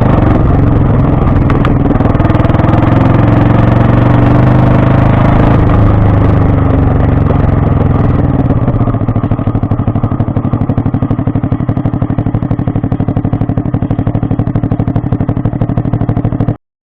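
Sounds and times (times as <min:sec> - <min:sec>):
small engine idling: 0:00.0 - 0:16.6.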